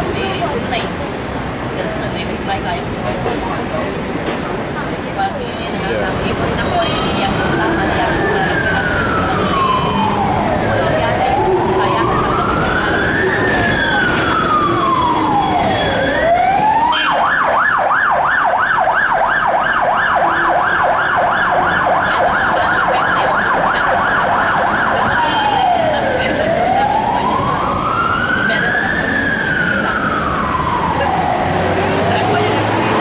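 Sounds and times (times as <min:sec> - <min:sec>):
ambulance siren wailing and yelping: 0:05.8 - 0:33.0.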